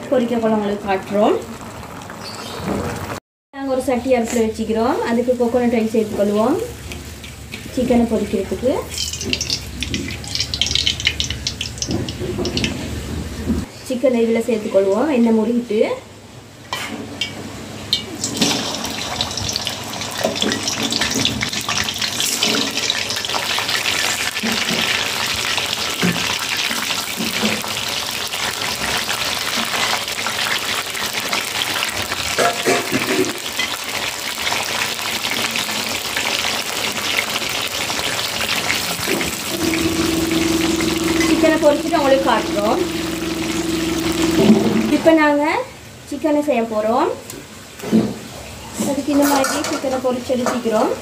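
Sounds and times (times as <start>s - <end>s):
chicken deep-frying in oil: 0.0s - 13.7s, 17.2s - 45.7s.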